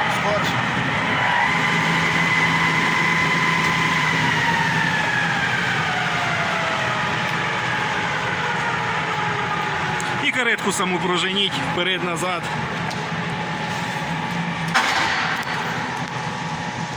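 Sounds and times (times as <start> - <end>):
lathe whining: 0.0 - 16.9.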